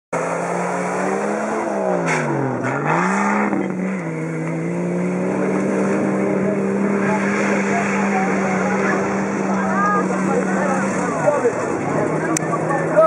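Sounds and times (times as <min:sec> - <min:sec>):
engine revving: 0:00.1 - 0:13.0.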